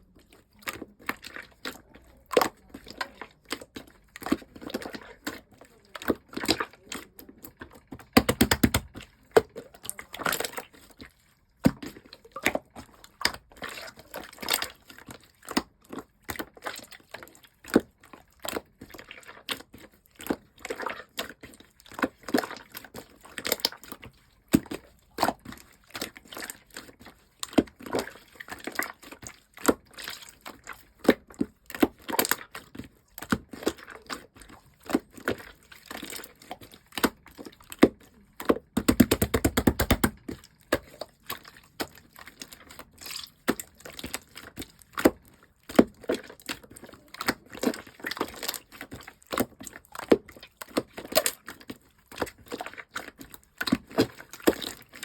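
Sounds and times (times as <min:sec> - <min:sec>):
slime squished by hand: 0:00.4 - 0:11.0, 0:17.7 - 0:55.0.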